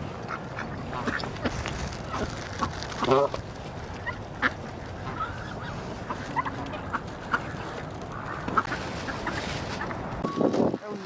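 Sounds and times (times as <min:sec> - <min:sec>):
ducks quacking: 0:00.2 - 0:03.4, 0:04.0 - 0:10.1
geese honking: 0:00.2 - 0:03.4, 0:04.0 - 0:10.0.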